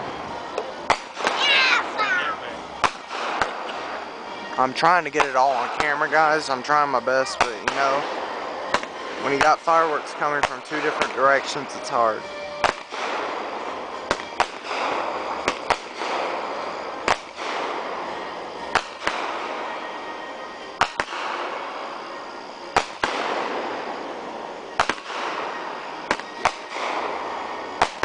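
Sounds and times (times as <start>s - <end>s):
firework hiss: 0.0s - 28.0s
firework shells bursting: 0.4s - 28.0s.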